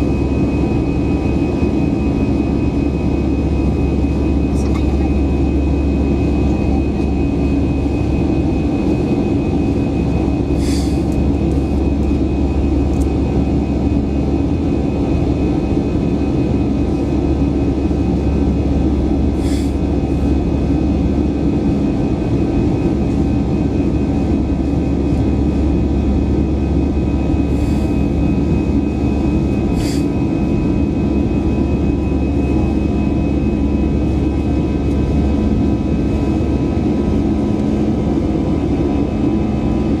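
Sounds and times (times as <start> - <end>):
jet engines rumbling and whining: 0.0 - 40.0.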